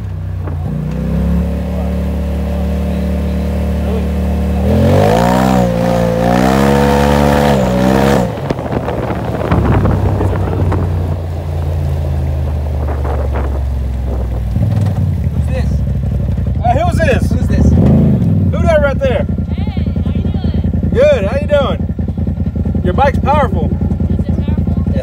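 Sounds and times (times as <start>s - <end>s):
engine idling and revving: 0.0s - 25.0s.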